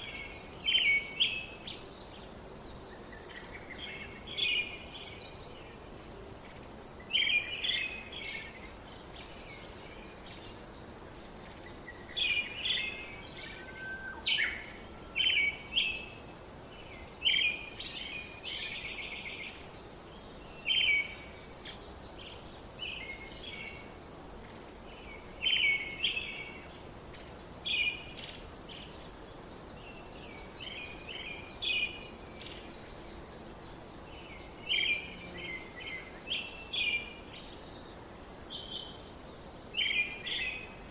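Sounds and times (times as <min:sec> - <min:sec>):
small birds chirping: 0:00.0 - 0:40.9
steady background hiss: 0:00.0 - 0:40.9.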